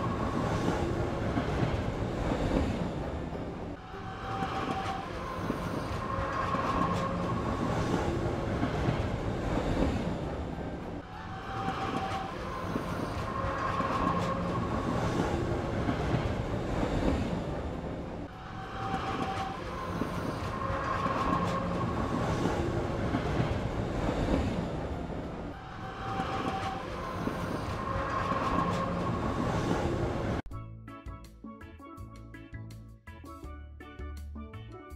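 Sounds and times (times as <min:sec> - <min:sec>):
recorded train sound loop: 0:00.0 - 0:30.5.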